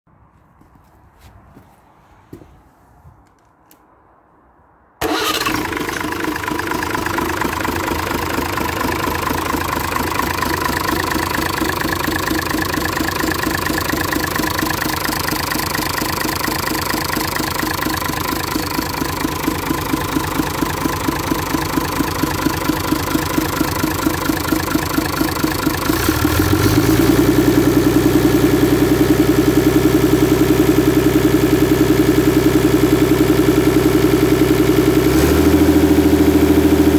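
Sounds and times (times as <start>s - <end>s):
diesel engine starting and idling: 5.0s - 36.9s.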